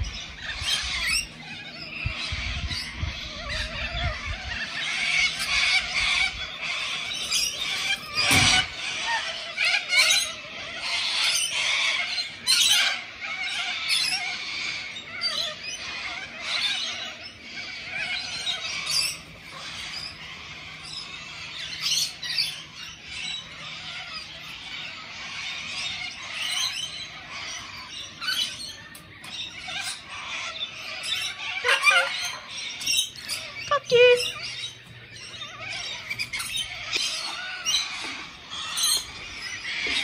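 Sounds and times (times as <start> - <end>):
cockatoos screeching: 0.0 - 40.0.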